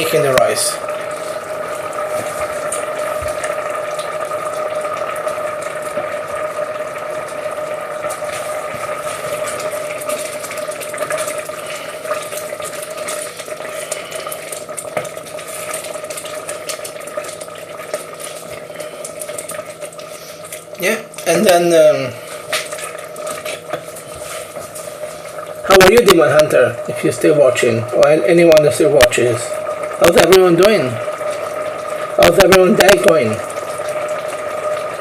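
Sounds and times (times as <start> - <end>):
pans bubbling and crackling: 0.0 - 35.0
steady hum: 0.0 - 35.0.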